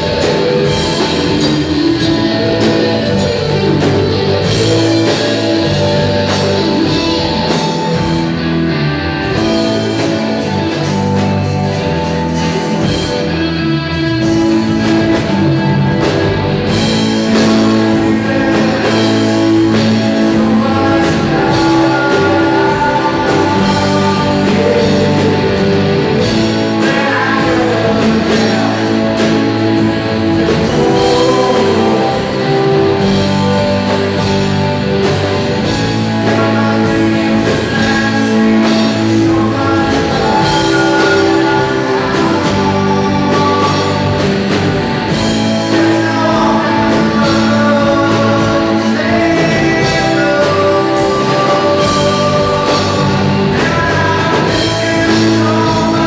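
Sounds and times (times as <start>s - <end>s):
funk rock band playing: 0.0s - 56.0s
man singing: 0.0s - 56.0s.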